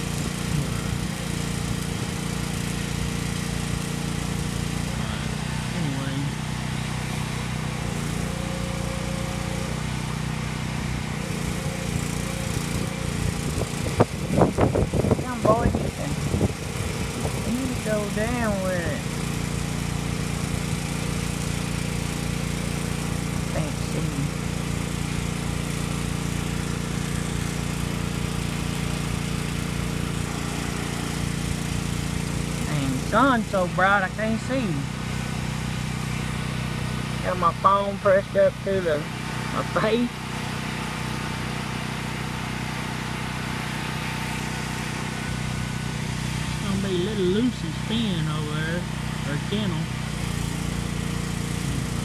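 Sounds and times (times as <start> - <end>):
small generator engine running: 0.0 - 52.0.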